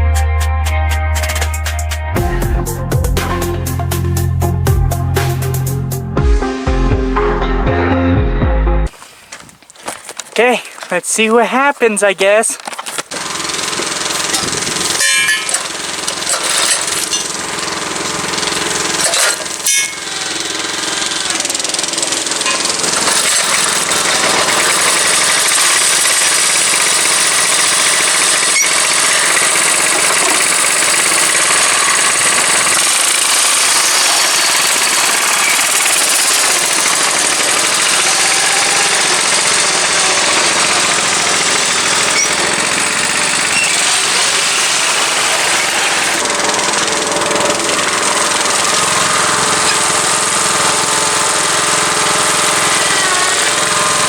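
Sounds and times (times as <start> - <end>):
small engine running rattly: 9.8 - 54.0.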